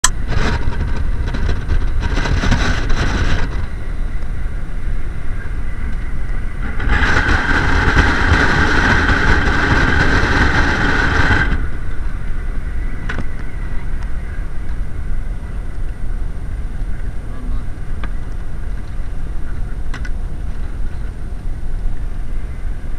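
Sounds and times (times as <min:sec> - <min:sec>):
wind buffeting microphone: 0:00.0 - 0:22.9
wind gusts whistling: 0:00.0 - 0:22.9.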